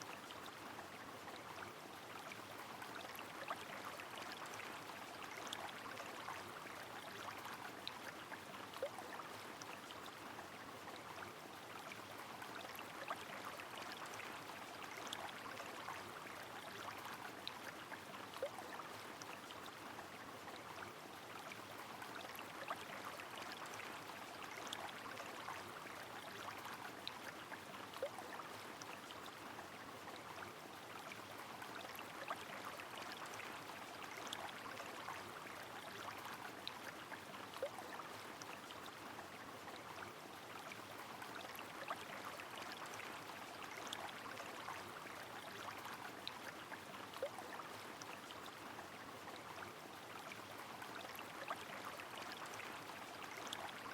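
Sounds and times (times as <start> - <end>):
river flowing: 0.0 - 53.9.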